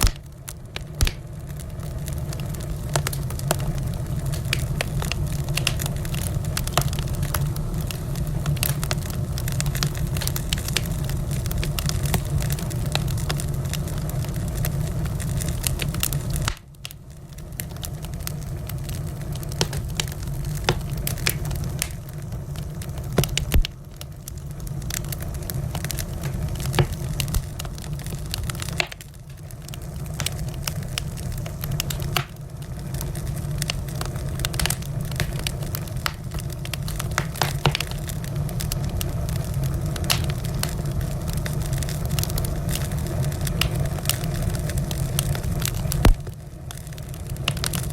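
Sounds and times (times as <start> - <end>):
low roar of fire: 0.0 - 47.9
wood fire crackling and popping: 0.0 - 47.9.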